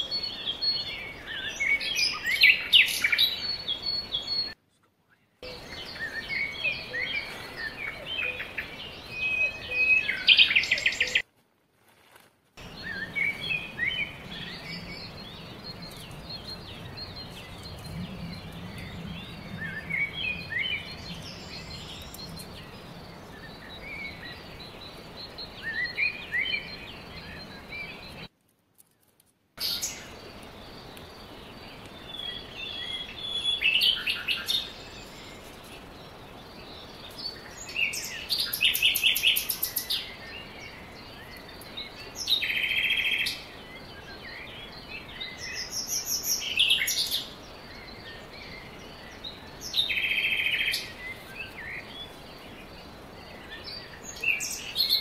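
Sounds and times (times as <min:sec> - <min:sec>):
small birds chirping: 0:00.0 - 0:11.3, 0:12.6 - 0:55.0
background hiss: 0:00.0 - 0:55.0.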